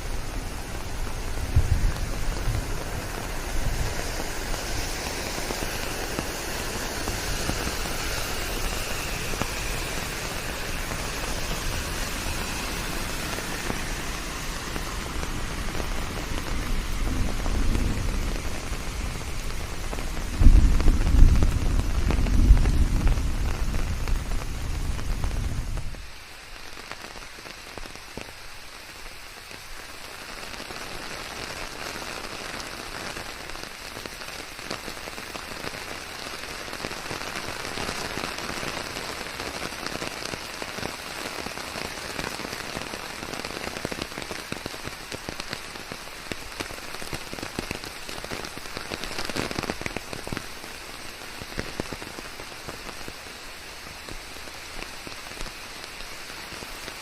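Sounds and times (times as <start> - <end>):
rain falling through forest: 0.0 - 57.0.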